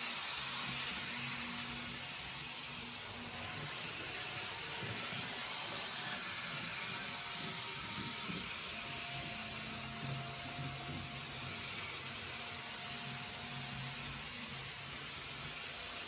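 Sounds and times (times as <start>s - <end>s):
model train wheels hissing on rails: 0.0s - 16.0s.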